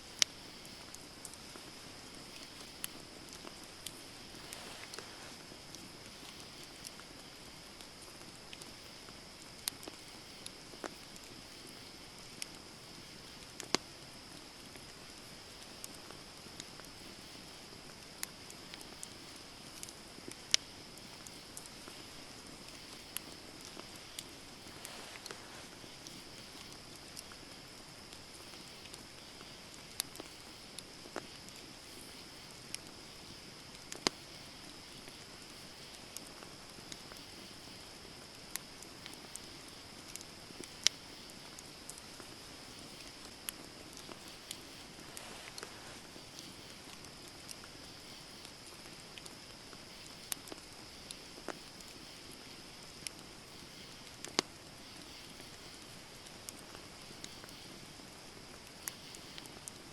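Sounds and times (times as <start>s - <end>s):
campfire hissing: 0.0s - 59.9s
fire crackles and pops: 0.0s - 59.9s.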